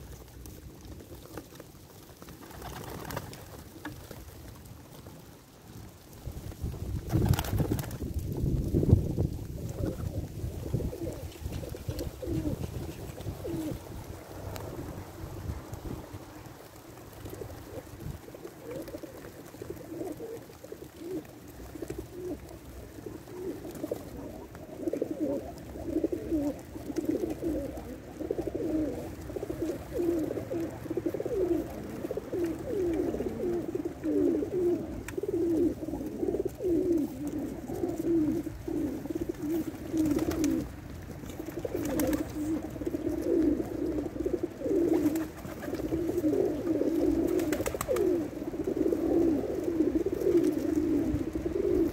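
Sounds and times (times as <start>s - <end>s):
pigeons cooing: 7.0s - 51.9s.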